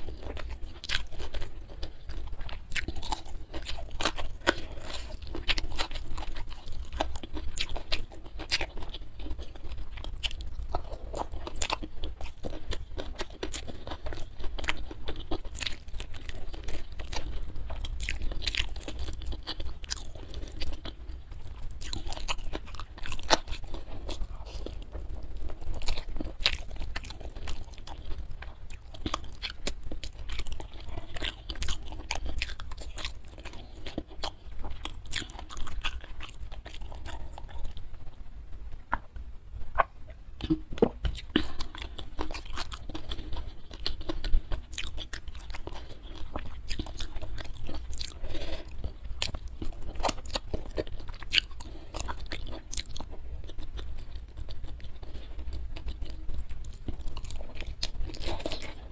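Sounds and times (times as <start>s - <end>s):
person chewing and crunching: 0.0s - 58.9s.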